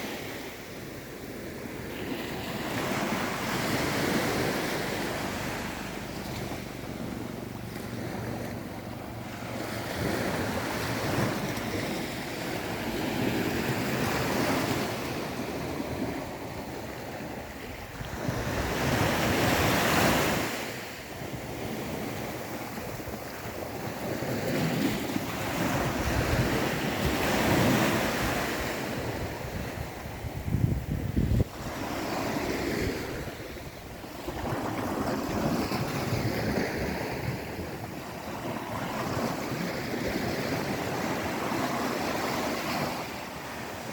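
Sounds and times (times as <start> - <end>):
waves washing in and out: 0.0 - 43.9
wind gusting on microphone: 0.0 - 43.9.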